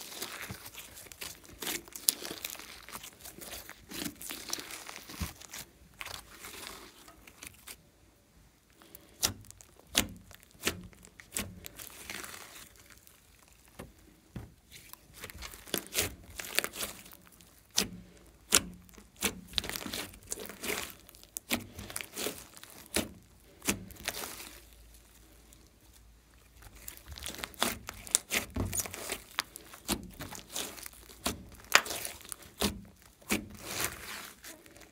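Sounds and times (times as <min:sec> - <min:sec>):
slime squishing with pops: 0:00.0 - 0:07.8, 0:08.6 - 0:34.9.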